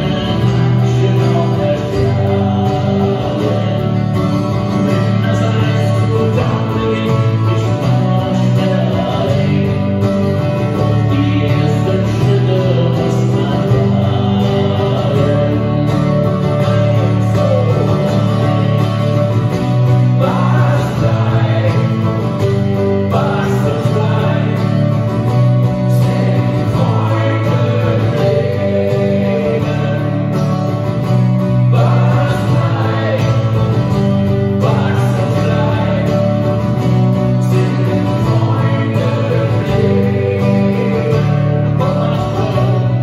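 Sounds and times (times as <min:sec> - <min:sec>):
acoustic guitars playing: 0:00.0 - 0:43.0
man singing: 0:00.0 - 0:43.0.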